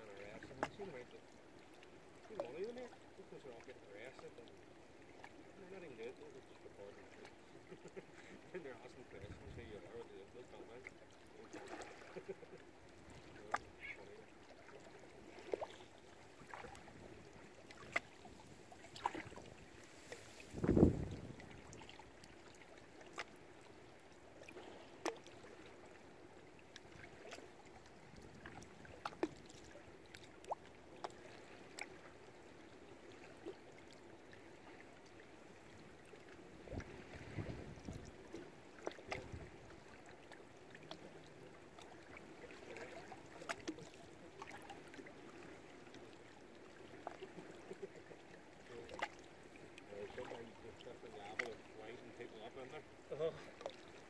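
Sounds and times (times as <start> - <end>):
water lapping against boats: 0.0 - 54.0.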